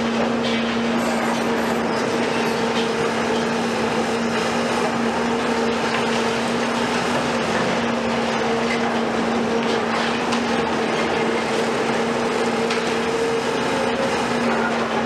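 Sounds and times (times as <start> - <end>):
excavator engine and hydraulic drone: 0.0 - 15.0.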